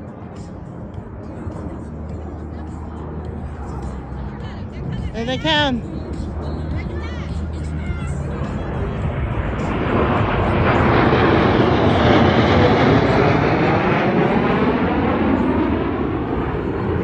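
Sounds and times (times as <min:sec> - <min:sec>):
jet engine roar passing: 0:00.0 - 0:17.0.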